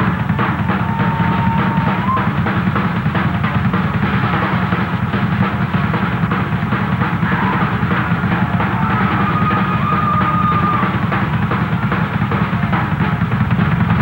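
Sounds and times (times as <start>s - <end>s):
loud drum hits: 0.0s - 14.0s
rock band playing live: 0.0s - 14.0s.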